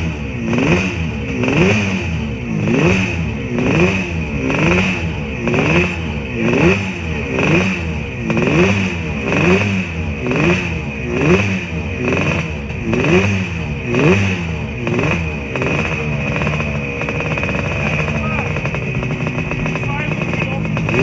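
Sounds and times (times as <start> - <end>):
engine revving with throttle blips: 0.0 - 21.0.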